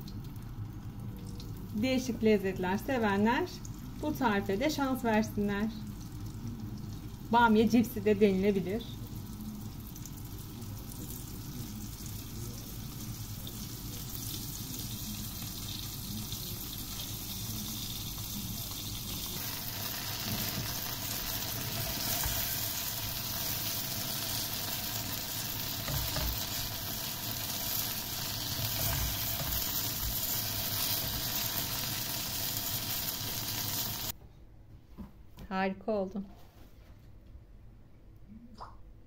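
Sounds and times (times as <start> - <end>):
okra sizzling in oil: 2.7 - 34.2.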